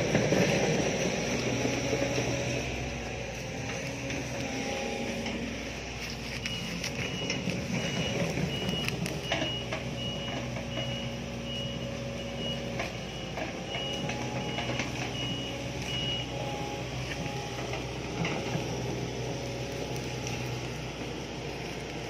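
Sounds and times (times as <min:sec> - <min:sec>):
diesel engine running: 0:00.0 - 0:22.0
excavator travel alarm beeping: 0:00.0 - 0:22.0.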